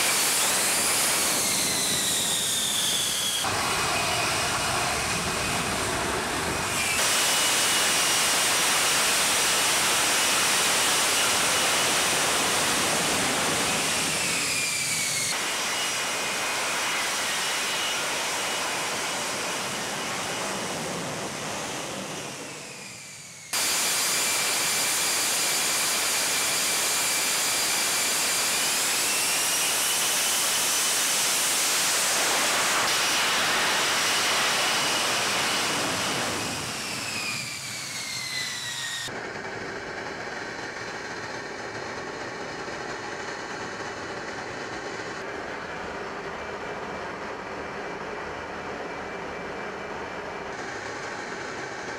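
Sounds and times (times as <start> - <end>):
jet engine rush with whine: 0.0 - 51.9.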